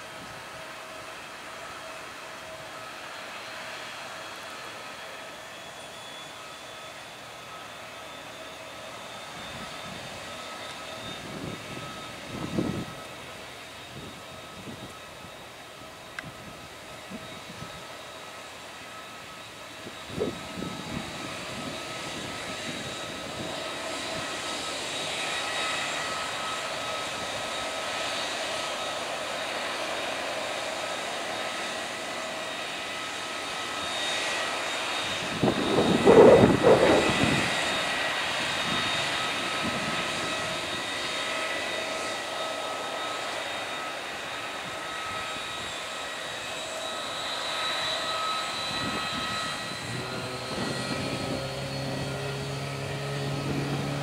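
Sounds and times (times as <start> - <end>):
jet engines idling whine: 0.0 - 54.0.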